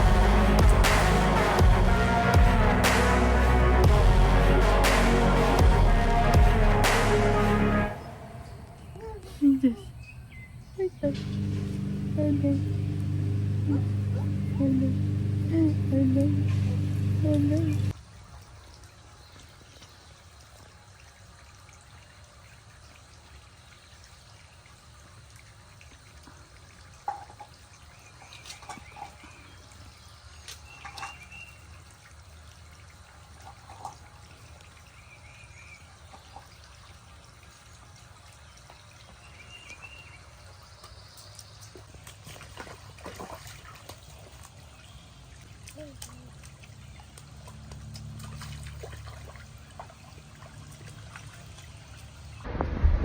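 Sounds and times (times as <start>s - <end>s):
faint trickling water: 8.0s - 52.5s.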